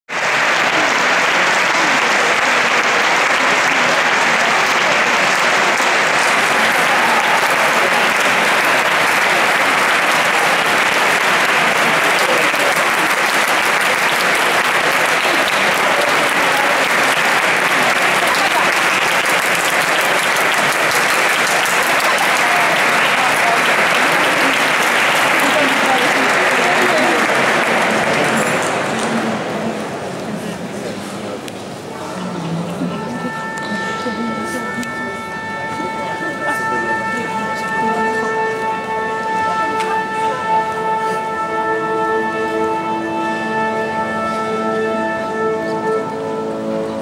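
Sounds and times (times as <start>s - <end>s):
audience applauding: 0.0s - 47.0s.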